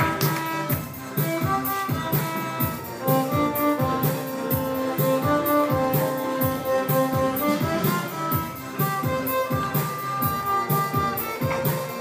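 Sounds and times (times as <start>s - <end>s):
accompaniment with steady beat: 0.0s - 12.0s
violin melody: 0.0s - 12.0s.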